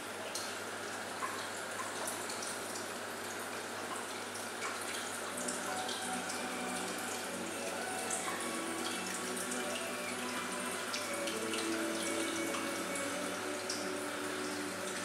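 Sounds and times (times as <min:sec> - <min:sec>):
running splashing water: 0:00.0 - 0:15.0.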